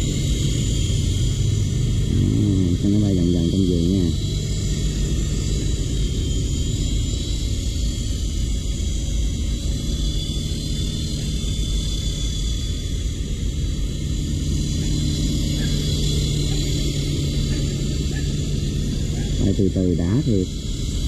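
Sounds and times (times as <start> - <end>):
rc helicopter whirring hum: 0.0 - 21.0.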